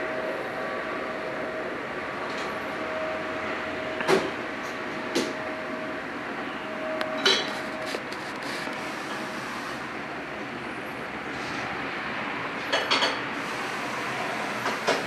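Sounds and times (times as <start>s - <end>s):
distant steam train hiss and rumble: 0.0s - 15.0s.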